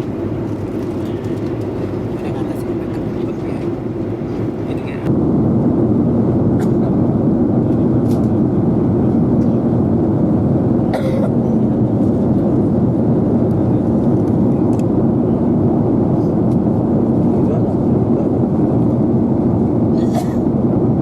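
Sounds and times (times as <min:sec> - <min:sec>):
jet engine cabin noise: 0:00.0 - 0:21.0.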